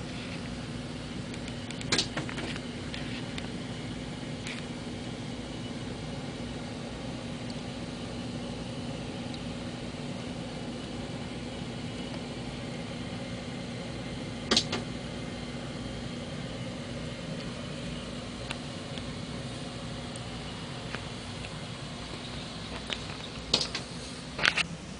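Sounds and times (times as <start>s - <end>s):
low mechanical hum: 0.0s - 24.9s.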